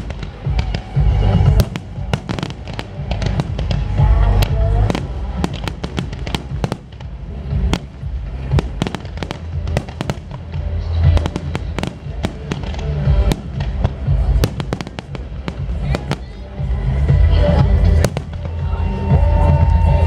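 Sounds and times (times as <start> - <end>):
deep rumbling booms: 0.0 - 20.0
fireworks sharp bangs and crackling: 0.0 - 20.0.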